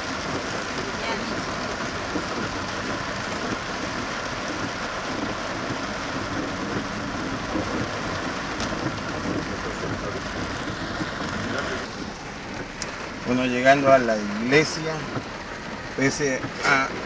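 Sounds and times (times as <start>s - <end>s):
heavy rain drumming on car roof: 0.0s - 17.0s.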